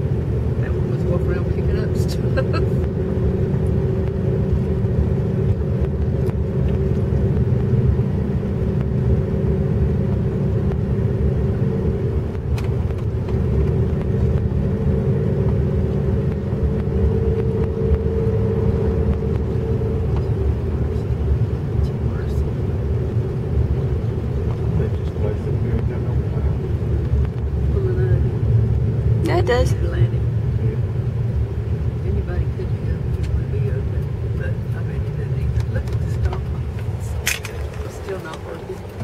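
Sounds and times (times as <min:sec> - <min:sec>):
car tyre and engine rumble: 0:00.0 - 0:39.0
steady hum: 0:00.0 - 0:39.0.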